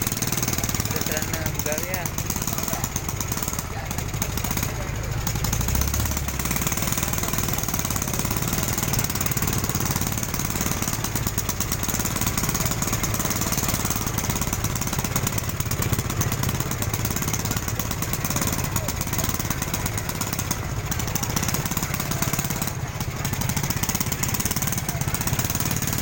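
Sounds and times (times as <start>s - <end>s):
small engine rattling: 0.0s - 26.0s.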